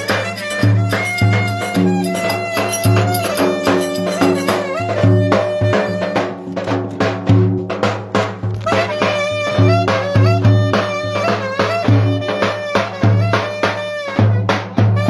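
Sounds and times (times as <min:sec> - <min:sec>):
wind instrument melody: 0:00.0 - 0:06.8, 0:08.5 - 0:15.0
steady drum beat: 0:00.0 - 0:15.0.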